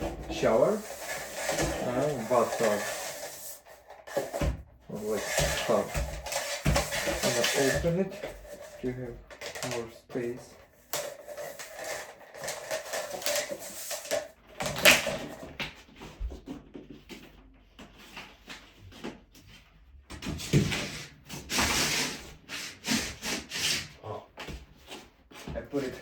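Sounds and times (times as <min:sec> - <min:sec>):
rubbing and scraping: 0:00.0 - 0:19.8, 0:20.4 - 0:26.0.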